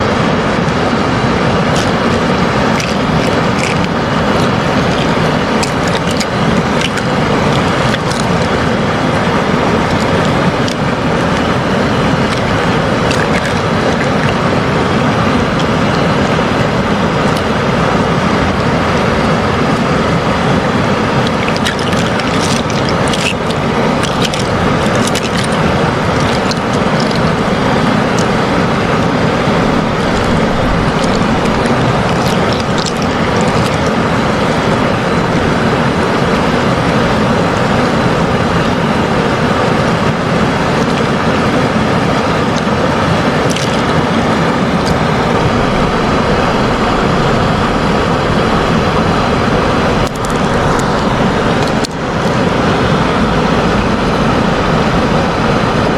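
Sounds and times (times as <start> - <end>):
faint hum: 0.0 - 55.9
steady noise: 0.0 - 55.9.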